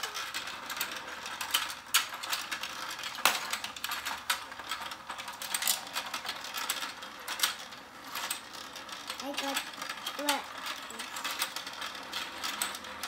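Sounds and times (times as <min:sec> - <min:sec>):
toy gears clicking and rattling: 0:00.0 - 0:13.0.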